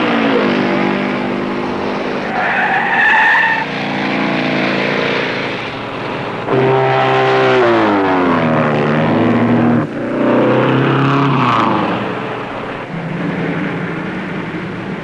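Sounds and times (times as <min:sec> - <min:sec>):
steady engine hum: 0:00.0 - 0:15.0
vehicles passing: 0:00.0 - 0:15.0.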